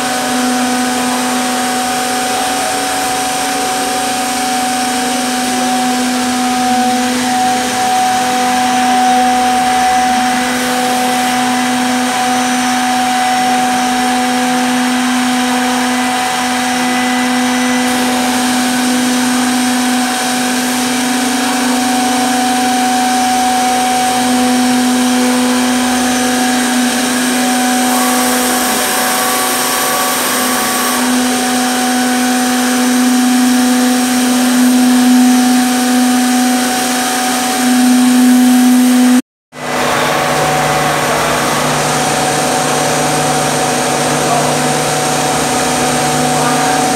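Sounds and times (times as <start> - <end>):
spindle motors whining: 0.0 - 46.9.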